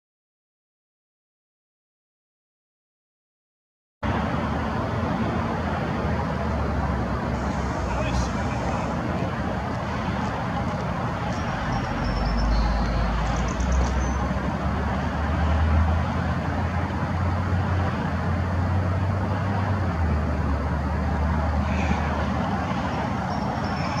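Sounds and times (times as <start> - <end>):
outdoor rumble with hiss: 4.0 - 24.0.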